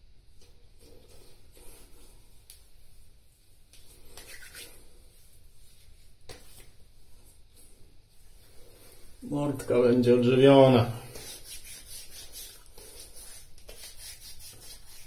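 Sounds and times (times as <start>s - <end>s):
hands rubbing skin: 0.4s - 9.2s, 11.0s - 15.0s.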